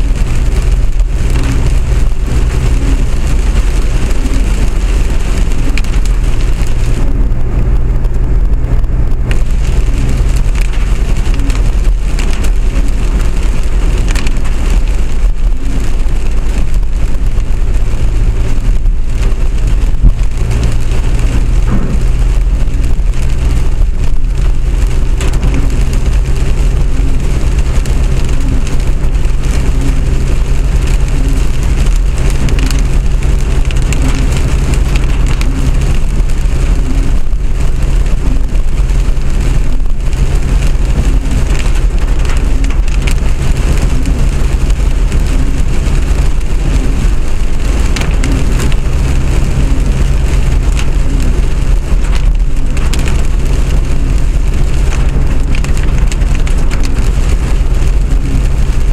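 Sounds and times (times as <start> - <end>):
low hum: 0.0 - 58.9
rain on vehicle: 0.0 - 58.9
vehicle running noise: 0.0 - 58.9.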